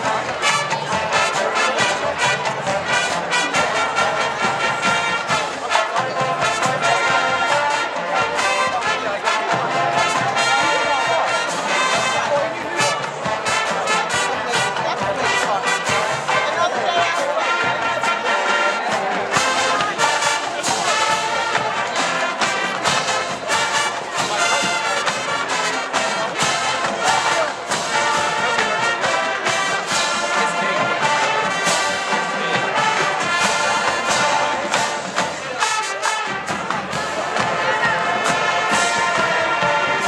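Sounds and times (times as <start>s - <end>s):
marching drums: 0.0s - 40.0s
trumpets and trombones: 0.0s - 40.0s.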